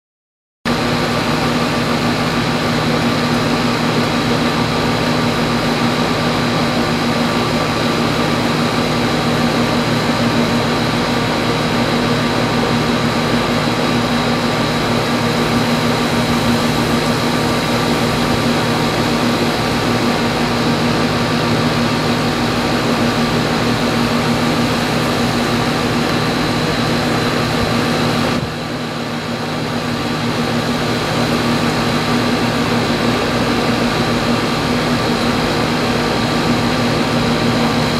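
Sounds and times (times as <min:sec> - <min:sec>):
steady machine hum: 0:00.7 - 0:37.9.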